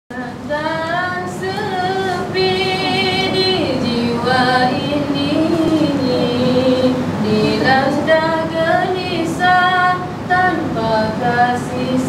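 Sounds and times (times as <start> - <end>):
girl singing into a microphone: 0.1 - 12.0.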